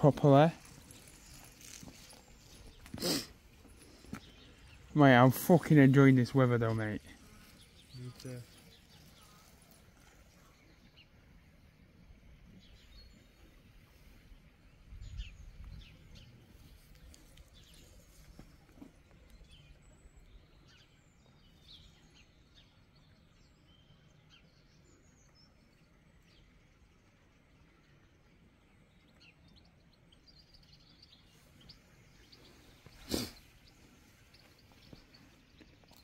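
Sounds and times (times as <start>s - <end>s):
birdsong chirps: 0.0s - 36.0s
outdoor background noise: 0.0s - 36.0s.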